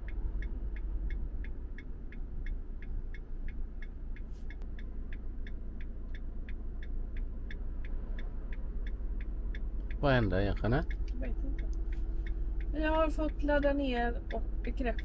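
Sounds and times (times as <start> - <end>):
idling engine hum: 0.0 - 15.0.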